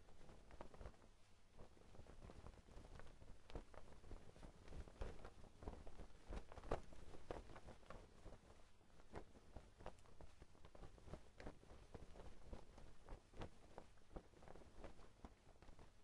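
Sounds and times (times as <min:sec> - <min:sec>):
clothes flapping in wind: 0:00.0 - 0:16.0.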